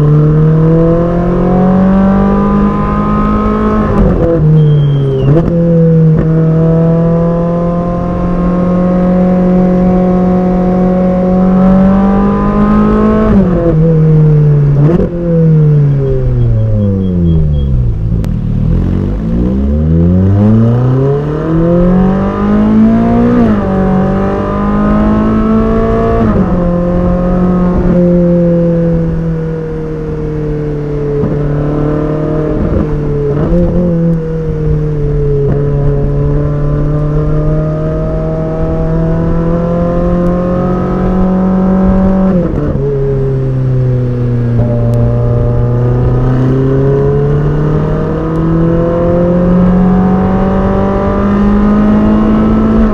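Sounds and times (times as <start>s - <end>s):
sports car engine revving: 0.0s - 52.9s.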